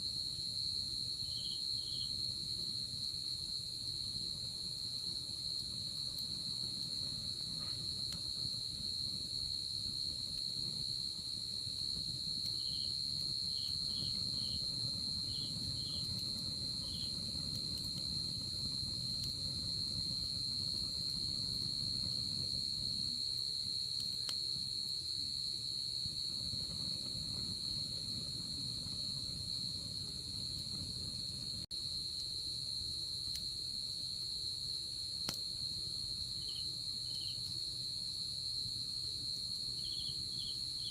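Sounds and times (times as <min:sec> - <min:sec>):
crickets trilling: 0:00.0 - 0:40.9
faint wood fire crackles: 0:00.0 - 0:40.9.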